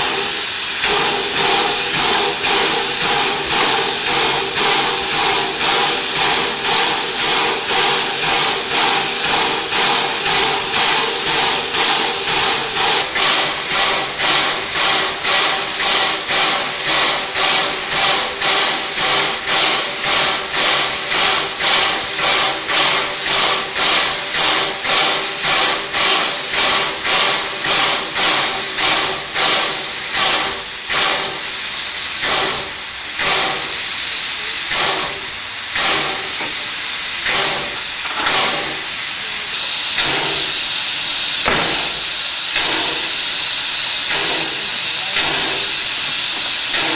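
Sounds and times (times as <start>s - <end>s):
loud steam hiss: 0.0s - 46.9s
rhythmic exhaust steam puffs: 0.0s - 46.9s.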